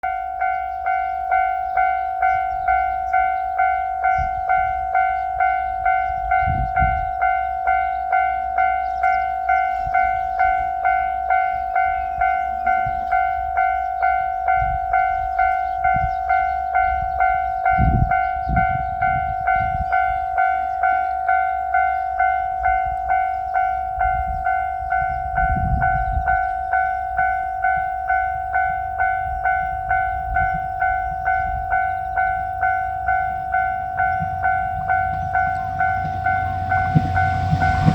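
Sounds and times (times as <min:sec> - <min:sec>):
level-crossing warning bell: 0:00.0 - 0:37.9.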